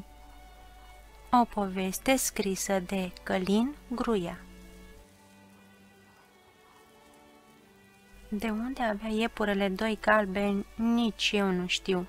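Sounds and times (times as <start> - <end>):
faint soft background music: 0.0 - 12.0.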